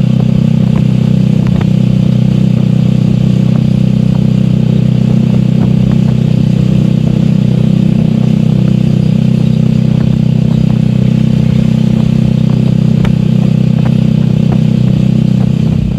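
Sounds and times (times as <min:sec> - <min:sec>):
motorcycle engine cruising: 0:00.0 - 0:15.9.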